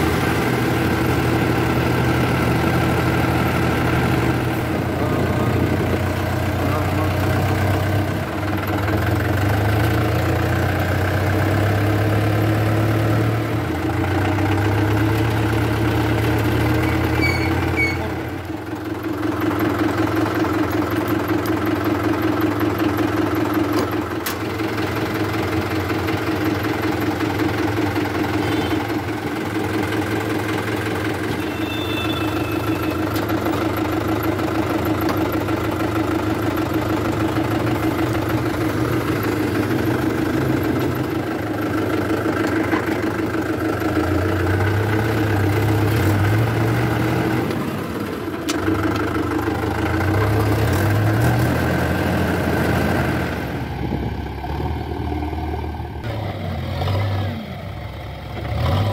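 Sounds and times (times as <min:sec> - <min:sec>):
tractor diesel engine: 0:00.0 - 0:58.9.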